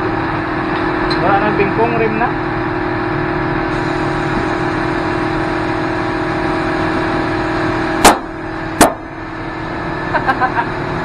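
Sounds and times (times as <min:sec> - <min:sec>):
tyre-changing machine humming: 0:00.0 - 0:11.0.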